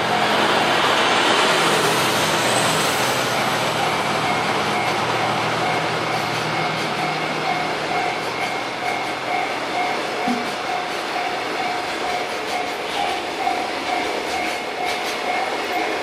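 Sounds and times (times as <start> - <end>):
diesel locomotive engine humming: 0.0 - 16.0
wheels on rails: 0.0 - 16.0.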